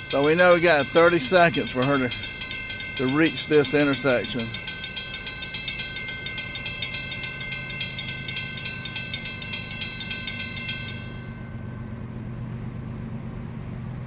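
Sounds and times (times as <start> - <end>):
crossing warning bell ringing: 0.0 - 13.1
low rumble of train cars: 0.0 - 14.0.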